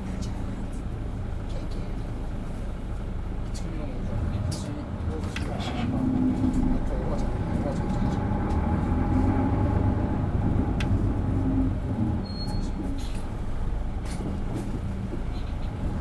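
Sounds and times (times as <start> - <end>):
bus diesel engine accelerating: 0.0 - 16.0.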